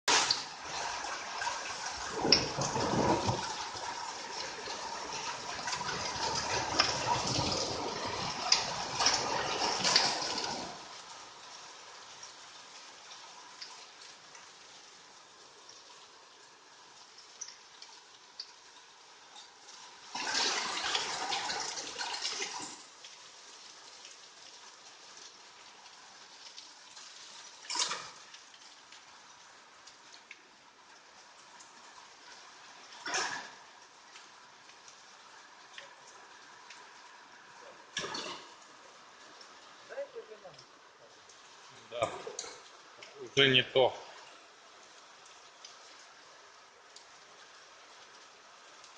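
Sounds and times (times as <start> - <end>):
heavy rain: 0.1 - 48.9.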